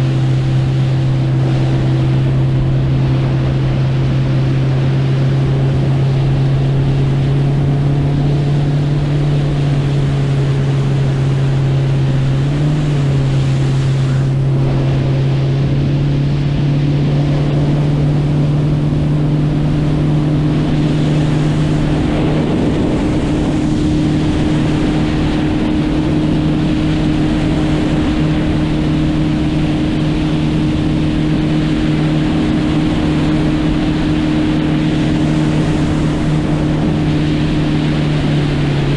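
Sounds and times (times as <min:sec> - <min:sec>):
motorboat engine running: 0:00.0 - 0:38.9
water and wind noise: 0:00.0 - 0:38.9.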